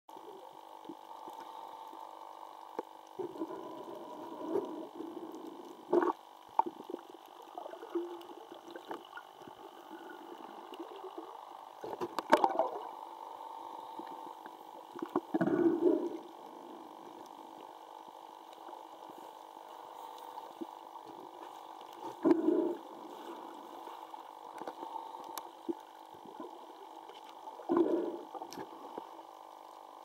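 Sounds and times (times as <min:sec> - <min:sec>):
dull underwater hum: 0:00.1 - 0:30.0
underwater gurgling bursts: 0:03.2 - 0:19.3, 0:20.3 - 0:29.4.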